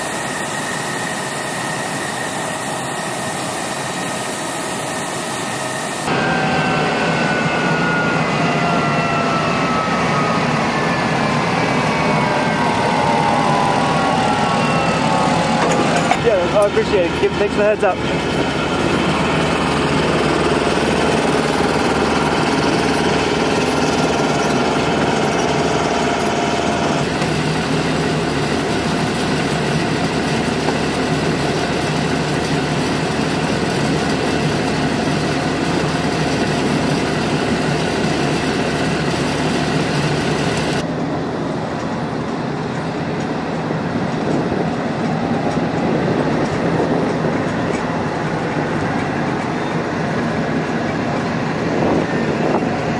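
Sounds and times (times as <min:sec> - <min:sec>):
ground equipment engines: 0:00.0 - 0:52.9
jet aircraft engines: 0:00.0 - 0:52.9.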